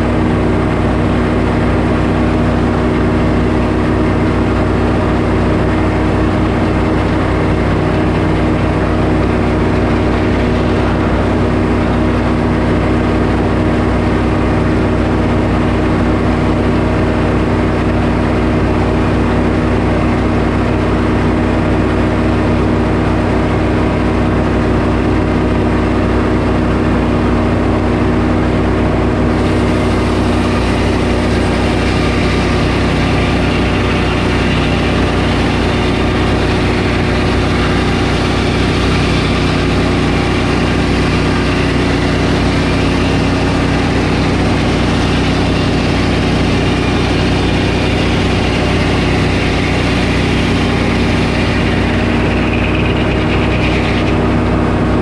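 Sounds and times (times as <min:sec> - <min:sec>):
sawmill engine running under load: 0:00.0 - 0:55.0.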